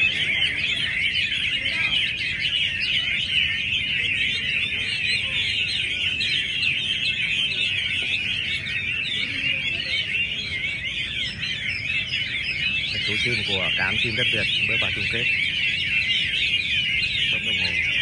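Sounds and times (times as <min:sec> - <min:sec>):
birds singing in chorus: 0:00.0 - 0:18.0.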